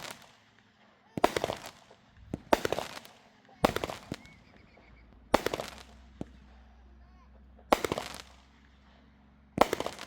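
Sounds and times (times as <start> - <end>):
fireworks banging and crackling: 0.0 - 10.0.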